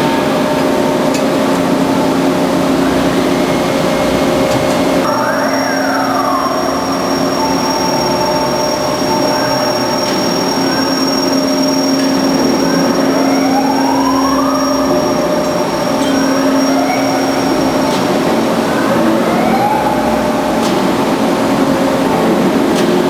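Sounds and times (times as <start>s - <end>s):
band saw humming: 1.6s - 21.8s
rising saw whine: 2.0s - 22.1s.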